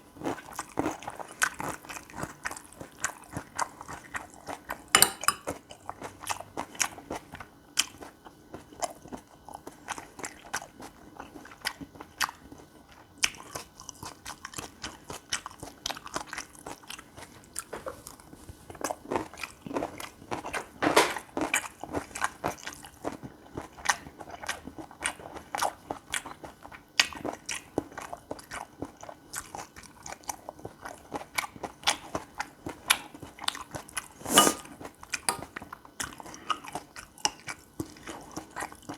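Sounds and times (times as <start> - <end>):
chewing and biting food: 0.0 - 38.9.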